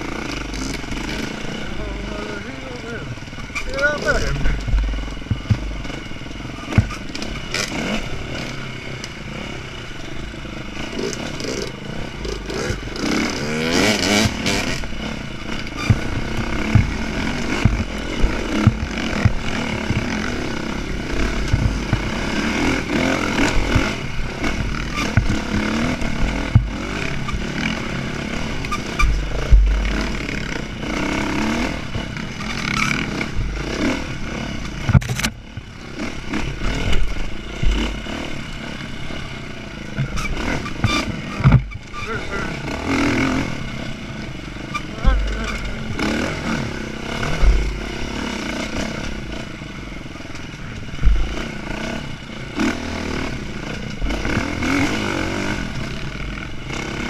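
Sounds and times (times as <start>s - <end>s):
dirt bike engine revving: 0.0s - 57.0s
knocks and rattles of bike: 0.0s - 57.0s.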